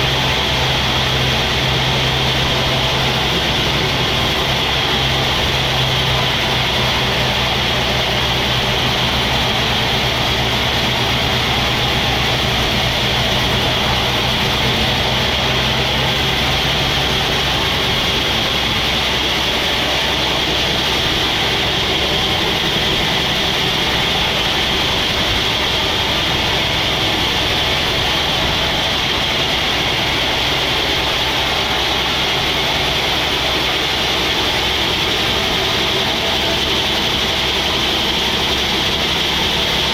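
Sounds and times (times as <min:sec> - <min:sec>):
low hum: 0:00.0 - 0:39.9
sawmill machinery whining: 0:00.0 - 0:39.9.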